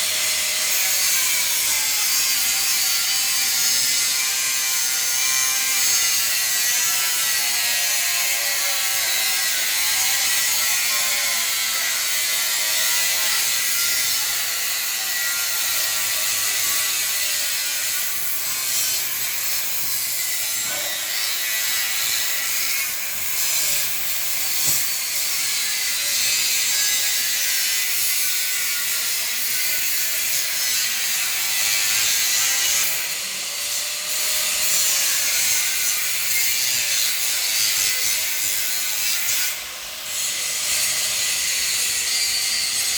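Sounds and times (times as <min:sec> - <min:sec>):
grinder cutting steel: 0:00.0 - 0:42.9.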